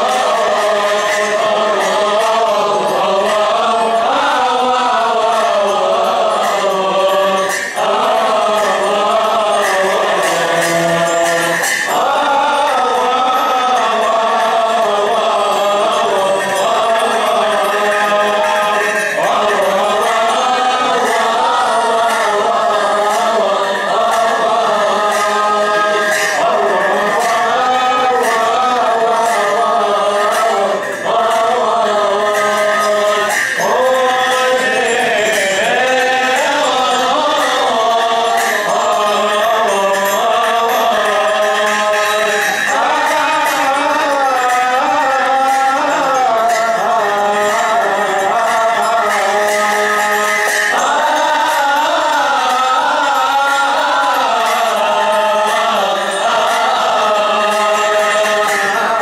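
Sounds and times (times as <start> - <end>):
chanted liturgical hymn: 0.0 - 59.0.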